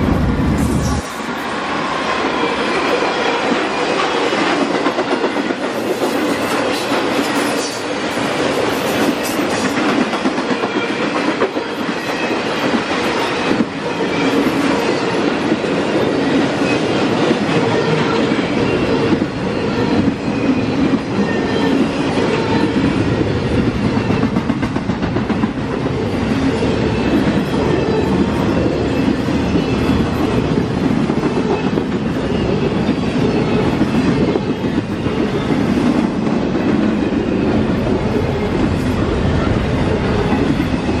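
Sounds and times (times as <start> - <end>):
freight train wheels rumbling on rails: 0.0 - 41.0.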